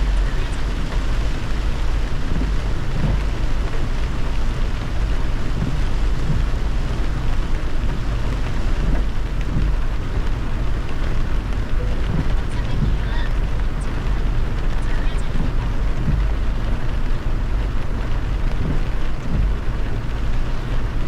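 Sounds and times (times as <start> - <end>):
deep road rumble: 0.0 - 21.0
rain and wet tyre spray hiss: 0.0 - 21.0.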